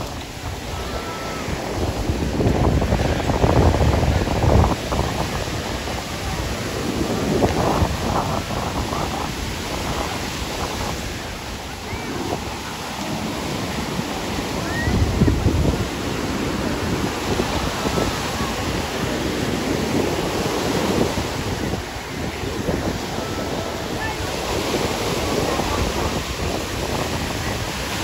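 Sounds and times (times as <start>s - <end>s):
faint voices: 0.0s - 28.0s
ocean surf breaking: 0.0s - 28.0s
wind on microphone: 0.0s - 28.0s.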